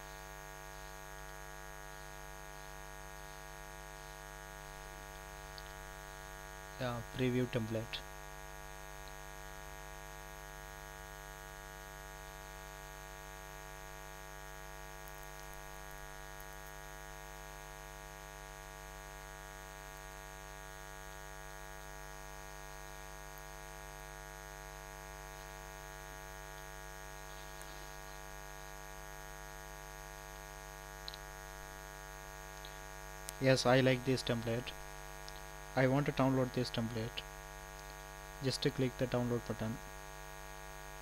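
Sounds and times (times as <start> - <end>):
electrical mains hum: 0.0 - 41.0.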